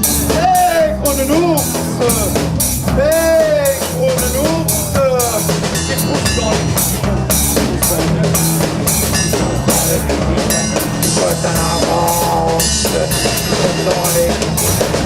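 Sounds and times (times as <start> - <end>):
drum kit beat: 0.0 - 15.0
instrumental rock music: 0.0 - 15.0.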